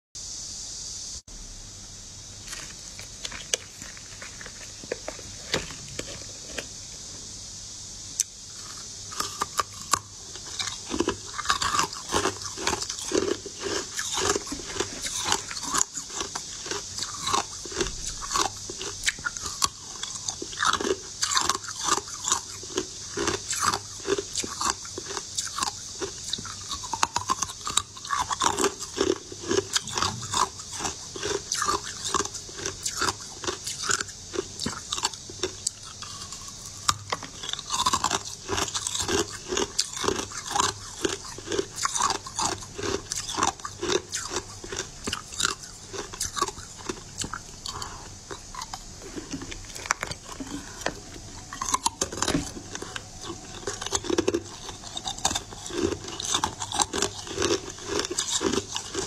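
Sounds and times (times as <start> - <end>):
steady hiss: 0.2 - 59.0
crunchy candy being chewed: 2.4 - 7.1, 8.2 - 59.0.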